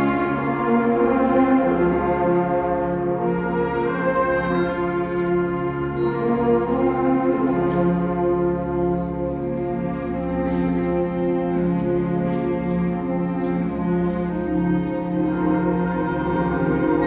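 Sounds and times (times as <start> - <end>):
concert band sustained chords: 0.0 - 17.0.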